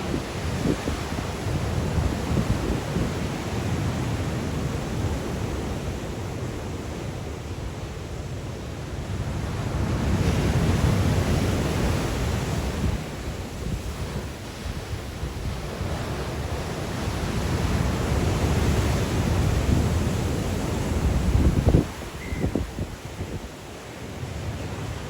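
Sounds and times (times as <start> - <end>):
wind buffeting microphone: 0.0 - 6.1, 9.2 - 25.0
waves breaking and washing: 0.0 - 25.0.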